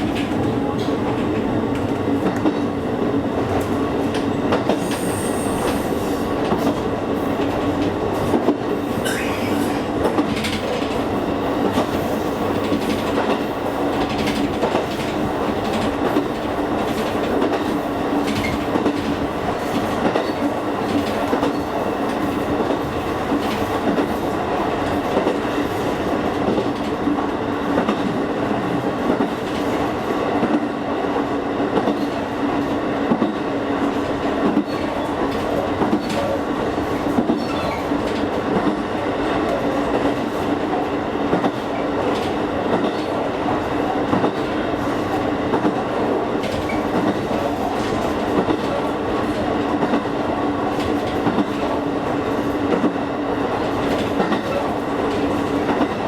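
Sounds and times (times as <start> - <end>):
train rumble with low hum: 0.0 - 56.0.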